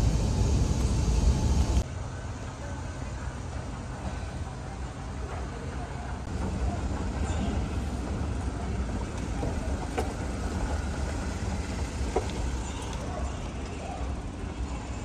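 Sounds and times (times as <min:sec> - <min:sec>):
vehicle rumbling: 0:00.0 - 0:15.0
faint voices: 0:02.0 - 0:15.0.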